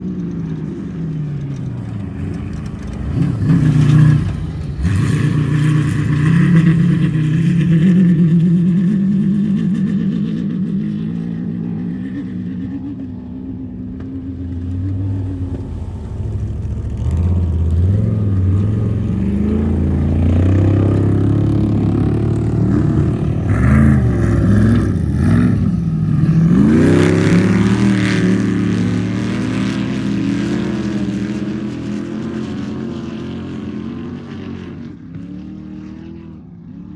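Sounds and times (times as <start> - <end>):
race car engines revving: 0.0 - 36.9.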